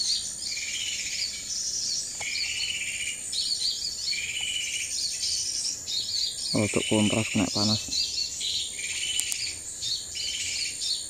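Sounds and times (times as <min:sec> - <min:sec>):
bird calling: 0:00.0 - 0:11.0
high bird chirps: 0:00.0 - 0:11.0
high-pitched insect drone: 0:00.0 - 0:11.0.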